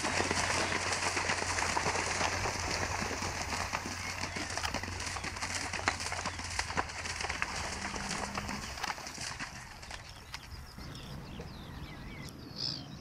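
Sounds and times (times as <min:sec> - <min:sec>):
horse hooves splashing in water: 0:00.0 - 0:11.6.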